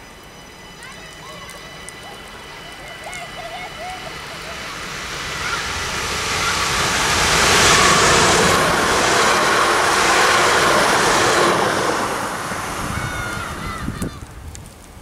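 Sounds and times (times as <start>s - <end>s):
train passing at speed: 0.0s - 14.9s.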